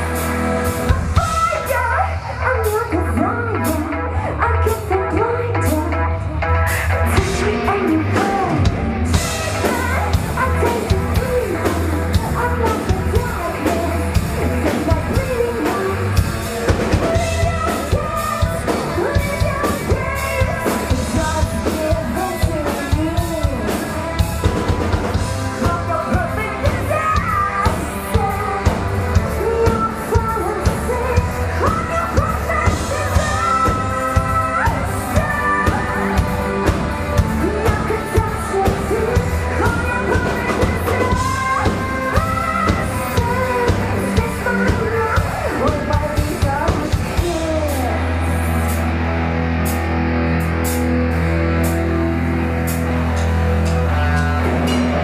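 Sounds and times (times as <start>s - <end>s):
woman singing: 0.0s - 6.4s, 7.1s - 24.5s, 25.1s - 48.6s
bass guitar: 0.0s - 55.0s
rock band playing: 0.0s - 55.0s
drum kit beat: 6.6s - 48.0s, 49.6s - 55.0s.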